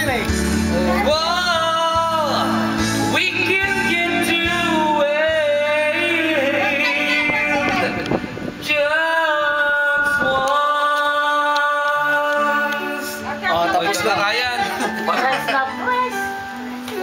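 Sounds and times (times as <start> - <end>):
man singing karaoke: 0.0 - 15.4
backing track music: 0.0 - 17.0.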